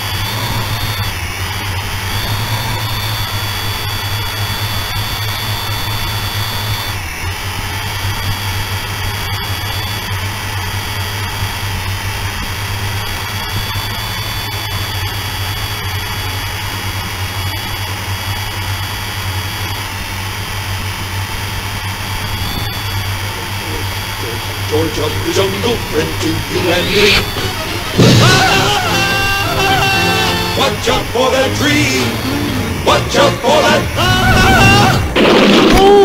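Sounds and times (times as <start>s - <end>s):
drone propellers whining: 0.0s - 36.0s
low hum: 0.0s - 36.0s.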